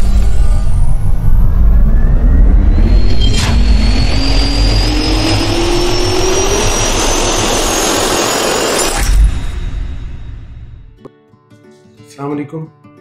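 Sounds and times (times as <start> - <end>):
jet turbine whine rising: 0.0 - 11.0.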